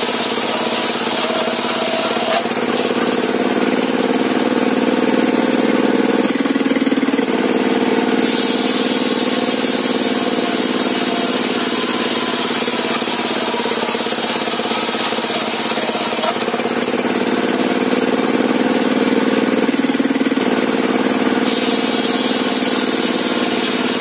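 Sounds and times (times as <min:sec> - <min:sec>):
table saw engine running: 0:00.0 - 0:24.0.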